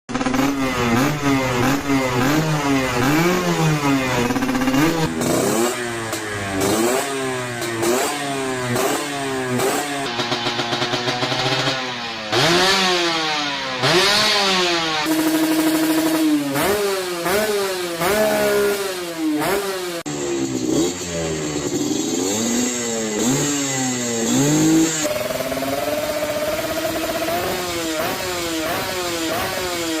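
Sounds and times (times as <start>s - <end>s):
two-stroke engine revving: 0.1s - 30.0s.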